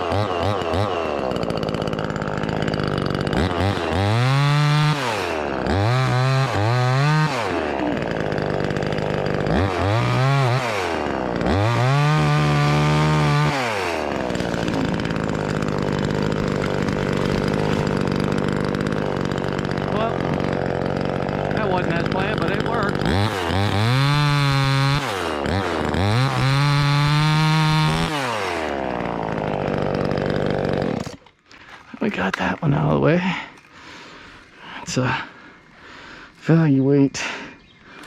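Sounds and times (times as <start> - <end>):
chainsaw revving and idling: 0.0 - 38.0.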